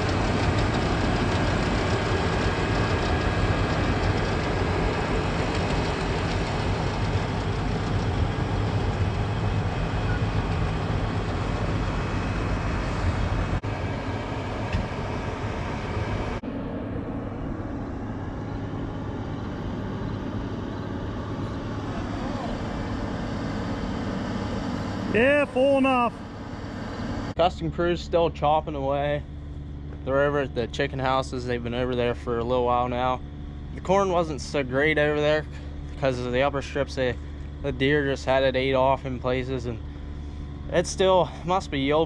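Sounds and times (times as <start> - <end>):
heavy diesel farm machinery running: 0.0 - 42.0.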